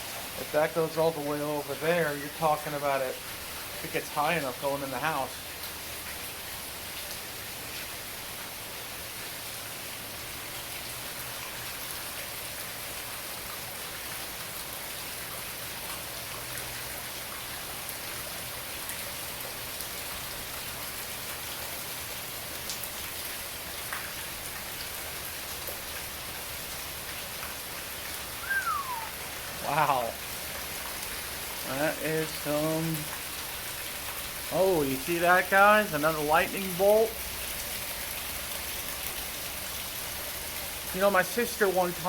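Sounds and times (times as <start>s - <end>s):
heavy rain pattering: 0.0s - 42.0s.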